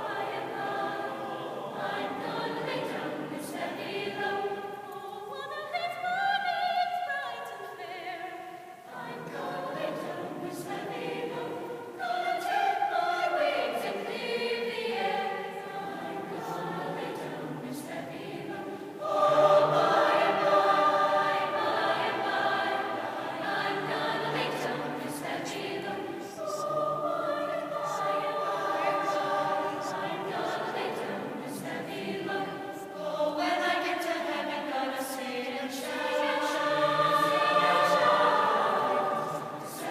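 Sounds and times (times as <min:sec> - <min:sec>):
choir singing sustained chords: 0:00.0 - 0:39.9.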